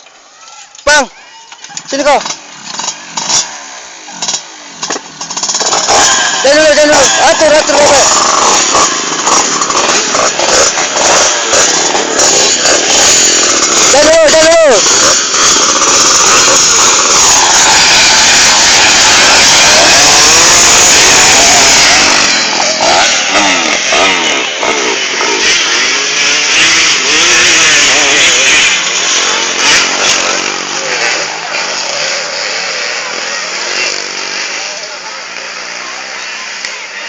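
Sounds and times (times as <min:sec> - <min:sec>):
motocross bikes revving: 0:00.0 - 0:37.0.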